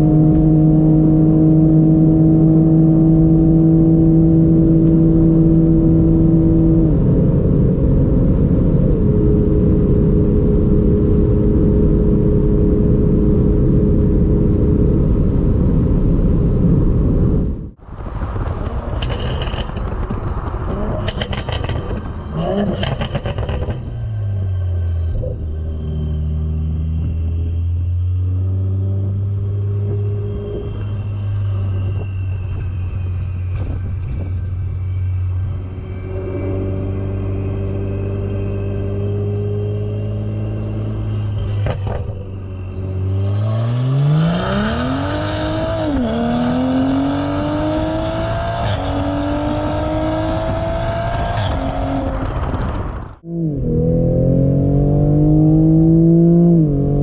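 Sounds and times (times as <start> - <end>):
car engine at high speed: 0.0 - 57.0
low exhaust note: 0.0 - 57.0
wind and road rush: 0.0 - 57.0.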